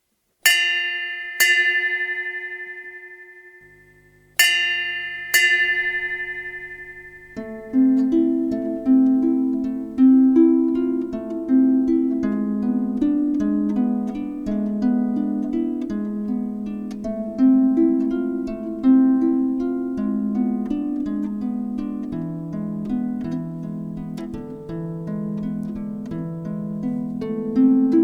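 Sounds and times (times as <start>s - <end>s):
harp music: 0.5s - 28.0s.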